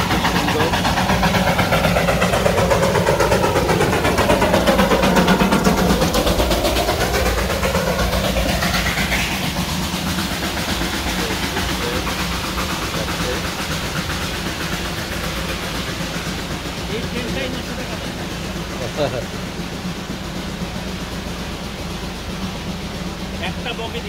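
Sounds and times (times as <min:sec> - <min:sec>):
steam locomotive chuffing past: 0:00.0 - 0:24.0.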